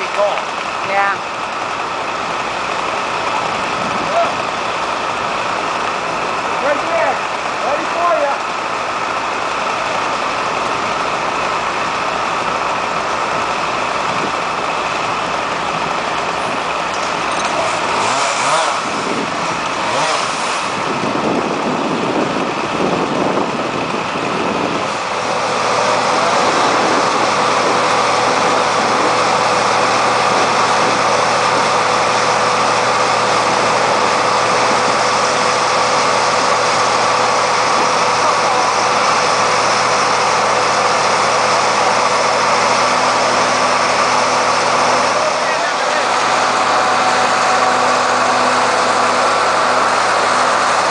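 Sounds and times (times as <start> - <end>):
engine running: 0.0 - 50.9
rush of noise: 0.8 - 50.9.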